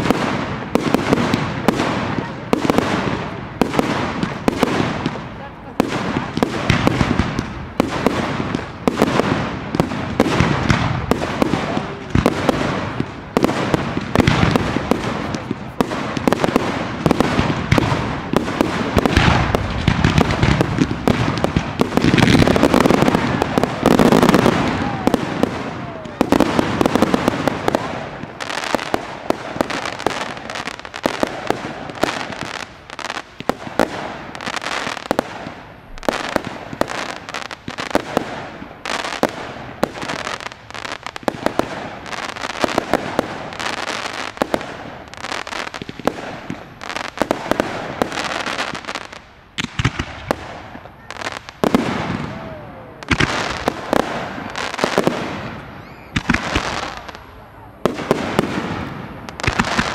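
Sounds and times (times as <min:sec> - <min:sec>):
firework pops and crackling: 0:00.0 - 0:59.9.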